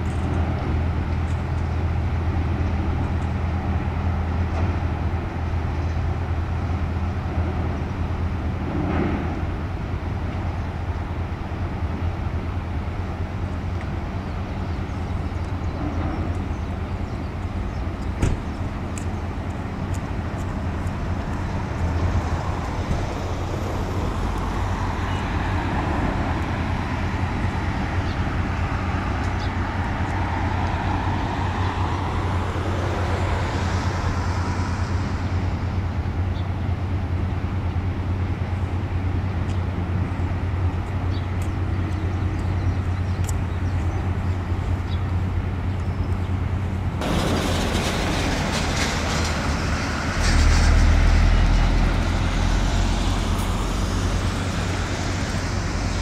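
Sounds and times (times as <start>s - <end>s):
engine rumble: 0.0s - 56.0s
outdoor background noise: 0.0s - 56.0s.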